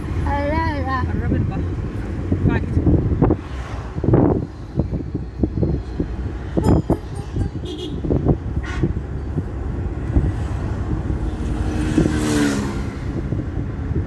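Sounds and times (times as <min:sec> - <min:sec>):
car engine and road rumble: 0:00.0 - 0:14.0
vehicle passing: 0:00.0 - 0:14.0.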